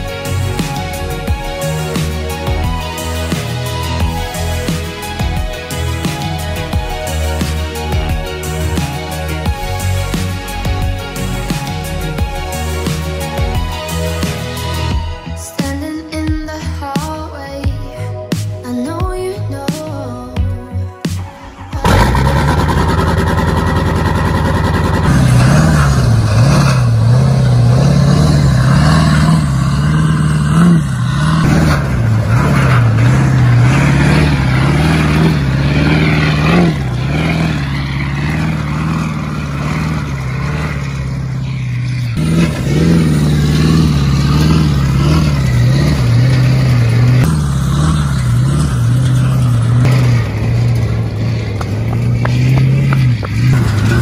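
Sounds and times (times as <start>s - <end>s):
truck engine revving: 0.0s - 16.0s, 21.0s - 54.0s.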